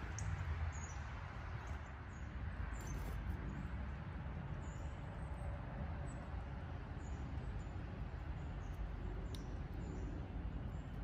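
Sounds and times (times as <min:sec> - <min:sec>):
low outdoor background rumble: 0:00.0 - 0:11.0.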